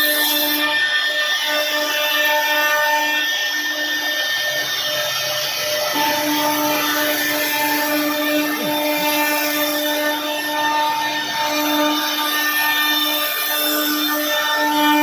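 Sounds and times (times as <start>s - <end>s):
router spindle whine: 0.0s - 15.0s.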